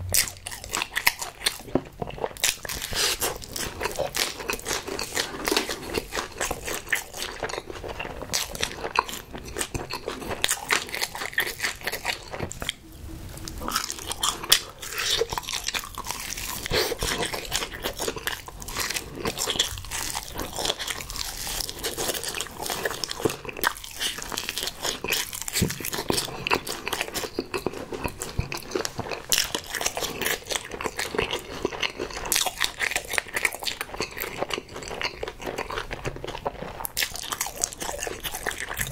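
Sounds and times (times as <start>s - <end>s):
close chewing and crunching: 0.0s - 12.8s, 13.5s - 38.9s.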